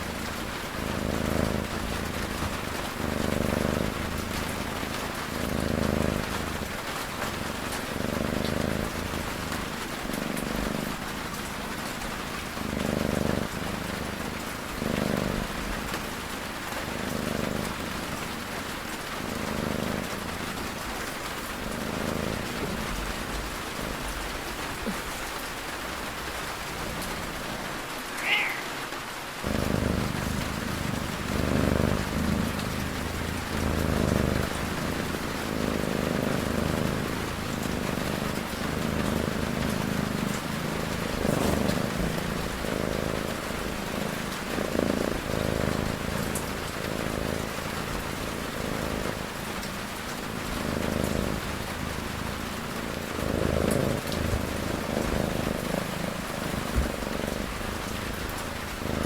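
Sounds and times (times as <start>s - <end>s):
cat snoring: 0.0s - 27.8s, 29.4s - 59.0s
steady rain: 0.0s - 59.0s.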